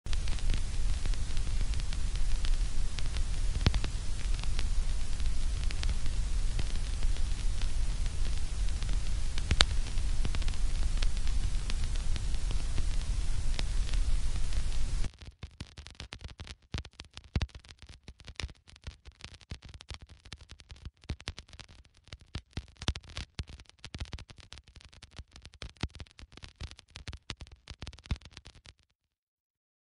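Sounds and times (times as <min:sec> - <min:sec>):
vinyl record hiss and rumble: 0:00.1 - 0:28.6
vinyl pops and clicks: 0:00.1 - 0:28.8.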